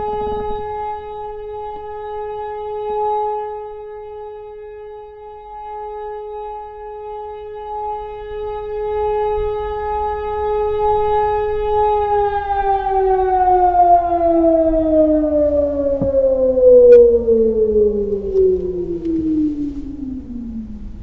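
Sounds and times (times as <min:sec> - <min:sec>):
civil defence siren: 0:00.0 - 0:21.0.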